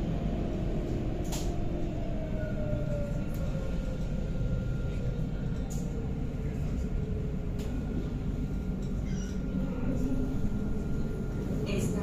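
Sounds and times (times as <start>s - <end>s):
tram low rumble: 0.0s - 12.0s.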